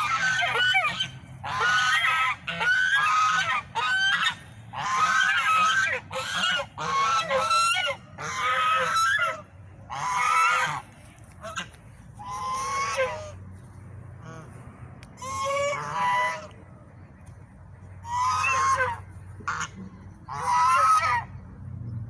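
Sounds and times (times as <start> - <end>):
swans honking: 0.0 - 21.4.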